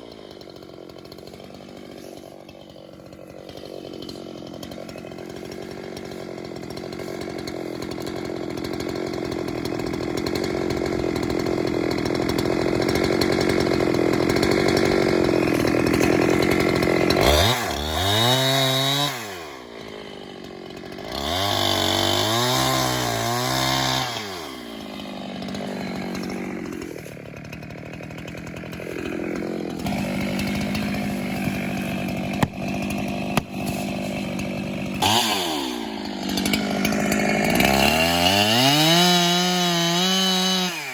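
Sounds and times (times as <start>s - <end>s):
chainsaw cutting timber: 0.0s - 40.9s.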